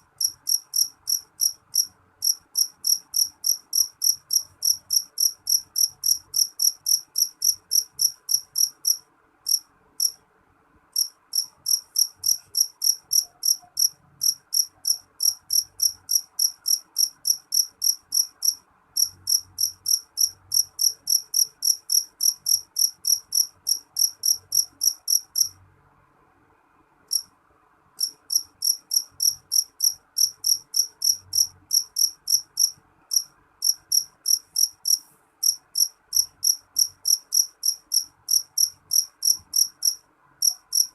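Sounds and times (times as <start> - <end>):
cricket chirping: 0.1 - 10.2, 11.0 - 25.6, 28.0 - 40.9.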